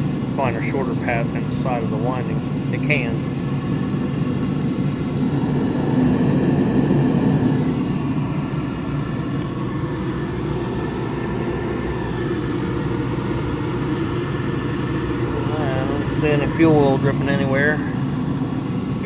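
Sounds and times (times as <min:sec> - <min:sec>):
oil burner roaring: 0:00.0 - 0:19.0.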